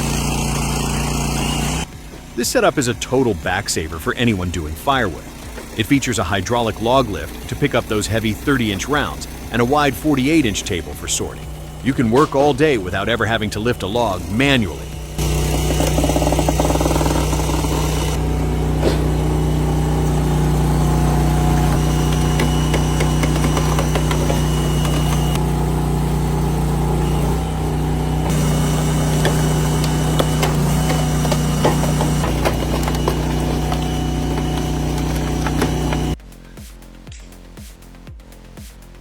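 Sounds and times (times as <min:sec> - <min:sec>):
engine running steadily: 0:00.0 - 0:36.5.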